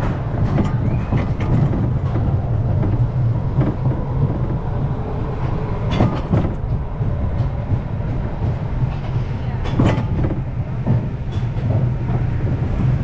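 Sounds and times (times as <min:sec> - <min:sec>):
roller coaster wheels rumbling: 0:00.0 - 0:13.0.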